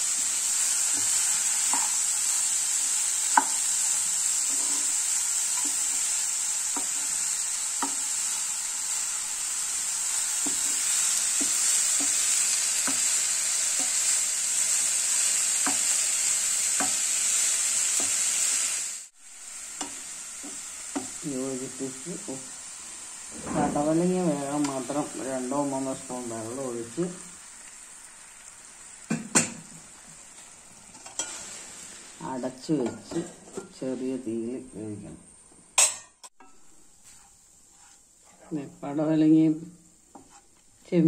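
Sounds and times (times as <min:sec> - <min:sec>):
food sizzling in a frying pan: 0:00.0 - 0:41.0.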